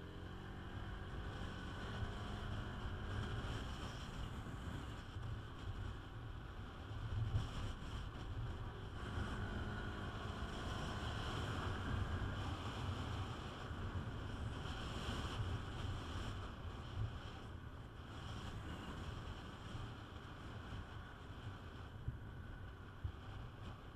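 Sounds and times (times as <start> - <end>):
road noise: 0.0 - 23.9.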